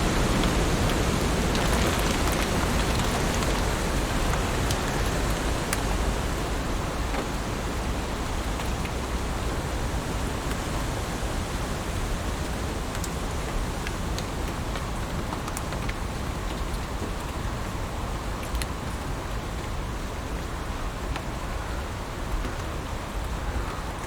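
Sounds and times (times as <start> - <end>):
heavy rain on leaves: 0.0 - 24.0.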